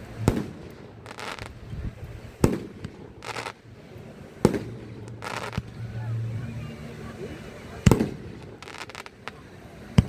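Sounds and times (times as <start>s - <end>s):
firework bangs: 0.0s - 10.0s
hissing crackle: 0.0s - 10.0s.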